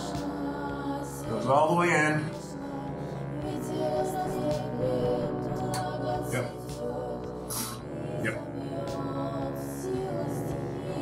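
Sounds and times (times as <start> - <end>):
background music with held tones: 0.0 - 11.0.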